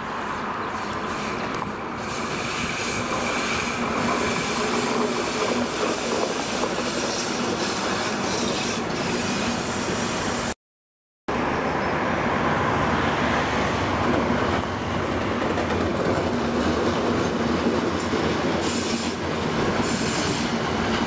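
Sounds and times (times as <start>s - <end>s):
diesel locomotive engine: 0.0s - 10.6s, 11.3s - 21.0s.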